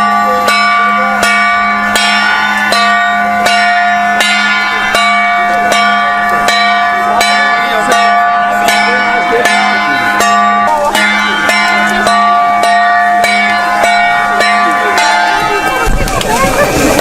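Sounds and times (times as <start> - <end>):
bells struck in slow melody: 0.0 - 15.8.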